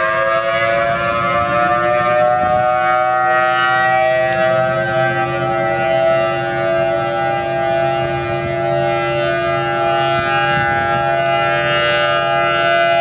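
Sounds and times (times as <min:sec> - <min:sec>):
tornado siren wailing: 0:00.0 - 0:13.0.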